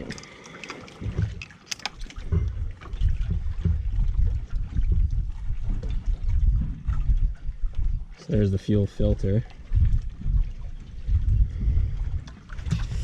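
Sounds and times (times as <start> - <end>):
wind buffeting microphone: 1.0 - 13.0.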